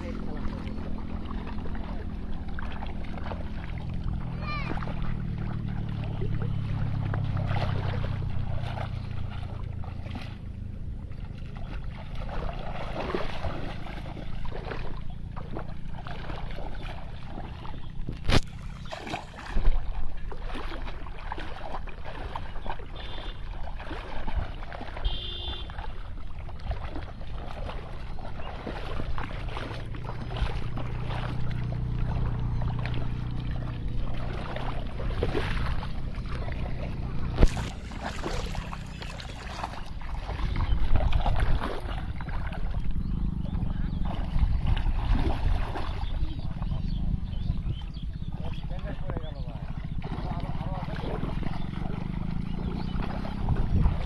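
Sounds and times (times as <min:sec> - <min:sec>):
muddy water splashing: 0:00.0 - 0:54.0
steady low rumble: 0:00.0 - 0:54.0.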